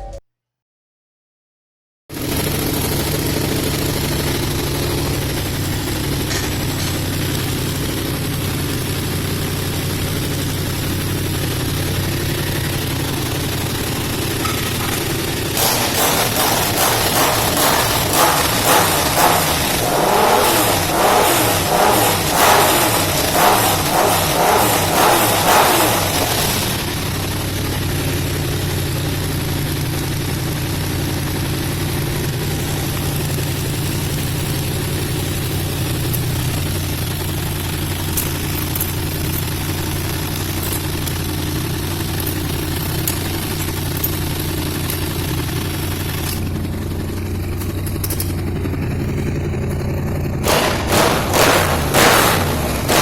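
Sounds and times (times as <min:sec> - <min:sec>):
motorcycle engine revving and idling: 0:02.1 - 0:53.0.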